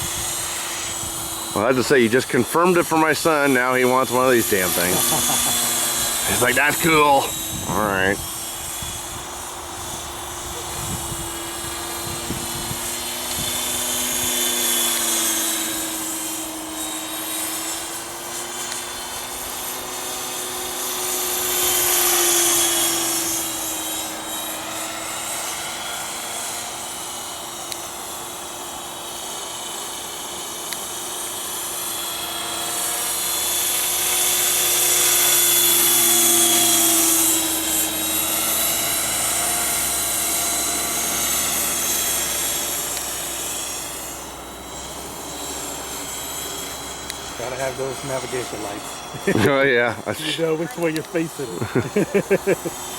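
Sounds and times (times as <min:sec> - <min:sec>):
model helicopter rotor whine: 0:00.0 - 0:52.9.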